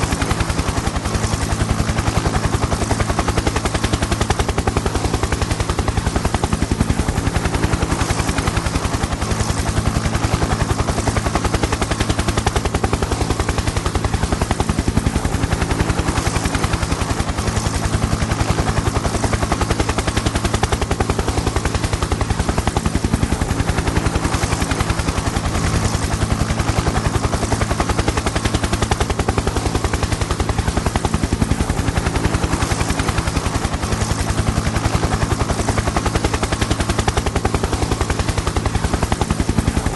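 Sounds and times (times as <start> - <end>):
helicopter engine drone: 0.0 - 39.9
helicopter rotor chopping: 0.0 - 39.9.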